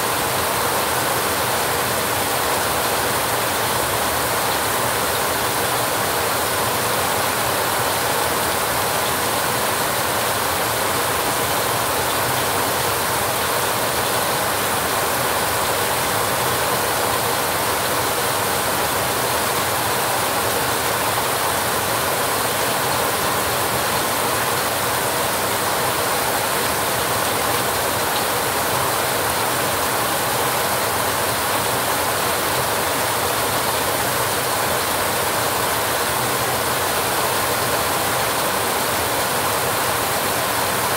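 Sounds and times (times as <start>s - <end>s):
heavy rain on metal roof: 0.0s - 40.9s.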